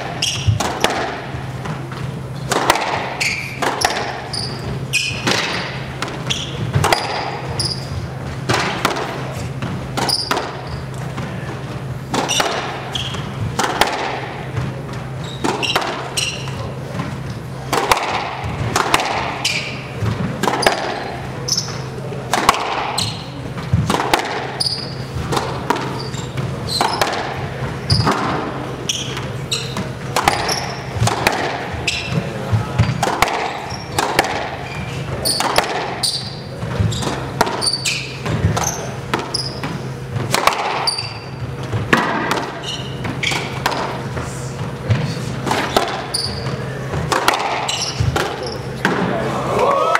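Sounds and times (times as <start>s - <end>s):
shoes squeaking on hardwood floor: 0.0s - 13.6s, 14.3s - 17.5s, 18.4s - 22.1s, 22.9s - 40.2s, 40.8s - 41.8s, 42.4s - 48.9s
squash ball hits: 0.0s - 49.3s.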